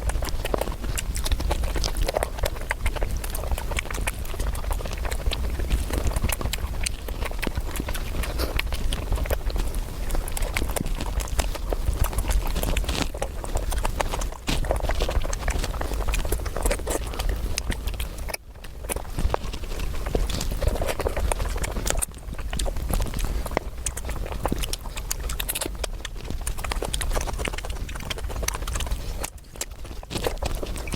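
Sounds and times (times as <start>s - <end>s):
crunching food: 0.0s - 30.9s.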